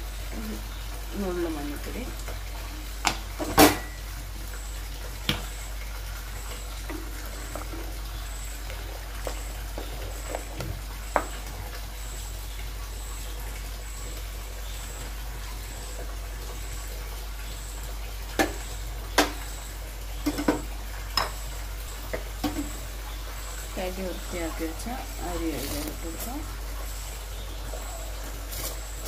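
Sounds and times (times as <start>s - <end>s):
stock boiling in a pot: 0.0s - 29.0s.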